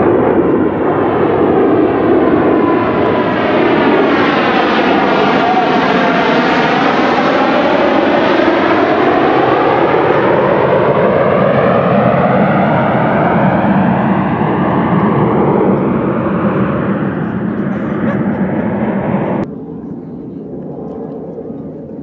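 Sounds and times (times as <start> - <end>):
airplane flying past overhead: 0.0 - 22.0.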